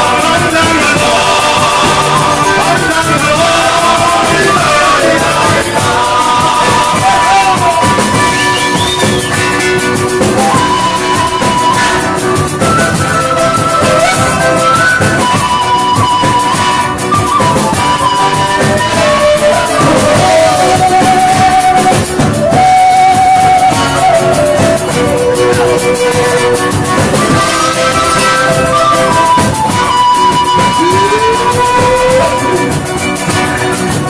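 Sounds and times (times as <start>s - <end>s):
held melody line: 0.0s - 34.0s.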